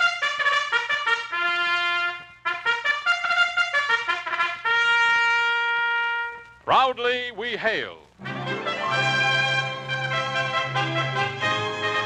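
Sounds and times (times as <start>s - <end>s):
brass fanfare: 0.0s - 6.6s, 8.2s - 12.0s.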